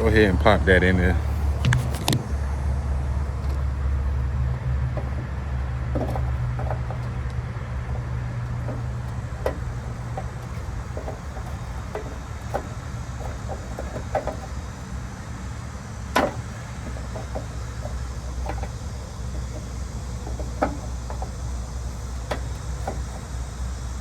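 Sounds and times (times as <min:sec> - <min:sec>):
light clicks and knocks: 0:00.0 - 0:24.0
steady low rumble: 0:00.0 - 0:24.0.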